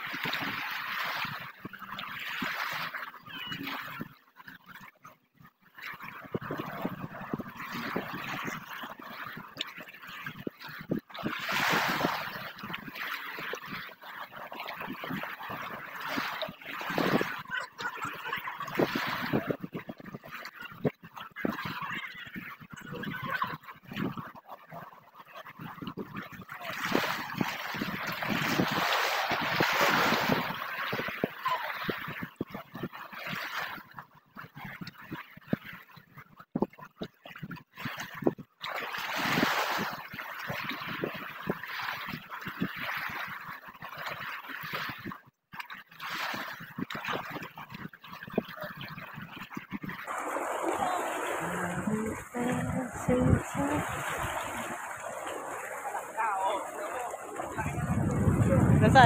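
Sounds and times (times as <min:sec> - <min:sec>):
rush of water: 0:00.0 - 0:59.0
water splashing and gurgling: 0:00.0 - 0:59.0.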